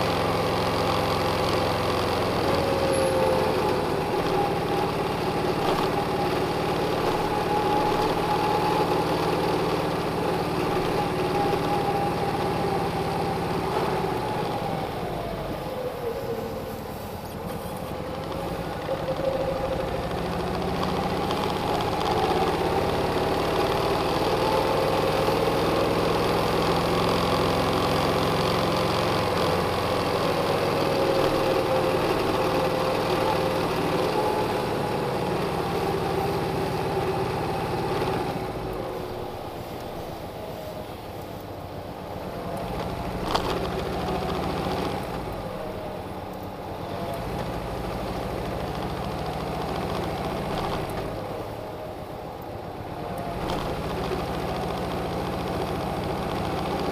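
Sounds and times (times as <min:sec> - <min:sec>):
car engine: 0:00.0 - 0:56.9
road noise: 0:00.0 - 0:56.9.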